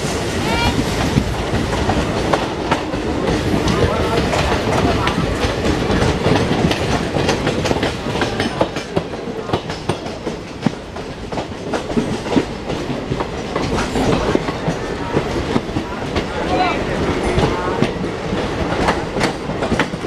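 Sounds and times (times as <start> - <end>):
train rumble from aboard: 0.0 - 20.0
wheels clicking over rail joints: 0.8 - 20.0.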